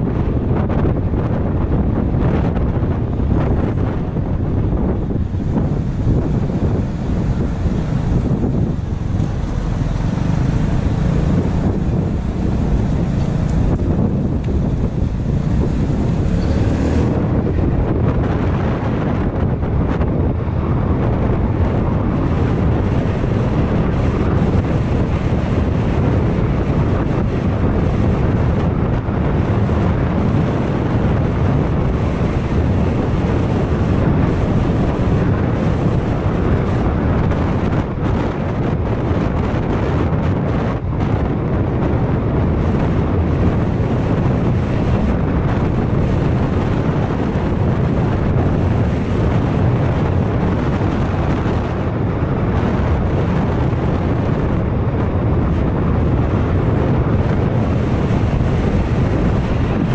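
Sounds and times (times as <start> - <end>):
road noise: 0.0 - 59.9
wind buffeting microphone: 0.0 - 59.9.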